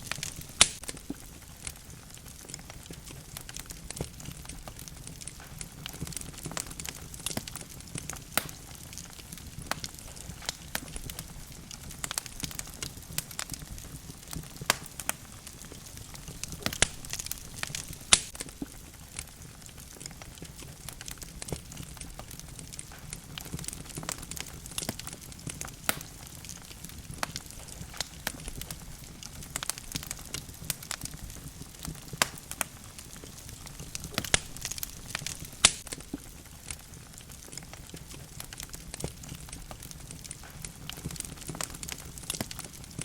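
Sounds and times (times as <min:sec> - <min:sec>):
flames hissing: 0:00.0 - 0:43.0
wood fire crackling and popping: 0:00.0 - 0:43.0.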